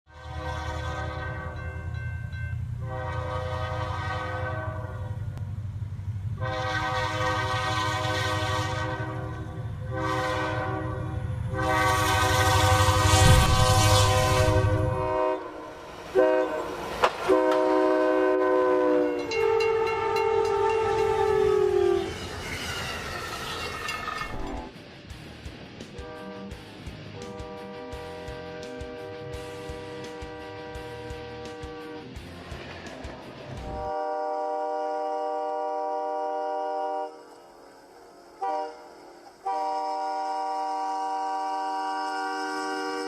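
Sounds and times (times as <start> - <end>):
train air horn blasts: 0.1 - 1.9, 2.8 - 5.4, 6.4 - 22.4, 26.0 - 26.6, 27.2 - 32.1, 33.7 - 43.0
train rumbling: 0.1 - 43.0.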